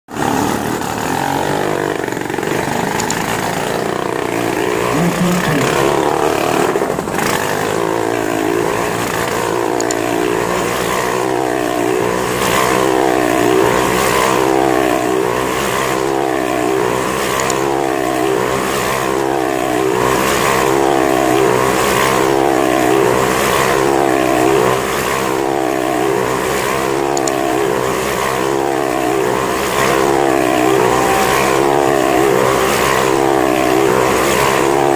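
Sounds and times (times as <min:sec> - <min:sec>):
motorcycle engines revving: 0:00.1 - 0:34.9.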